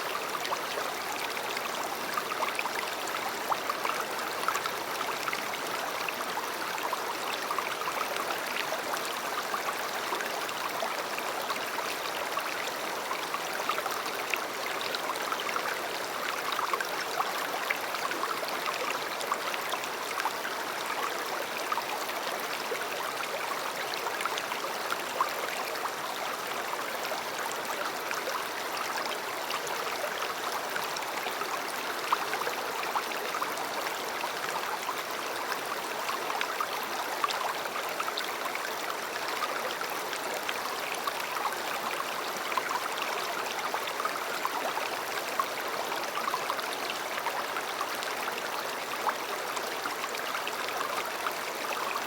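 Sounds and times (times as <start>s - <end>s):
river water flowing: 0.0s - 52.0s.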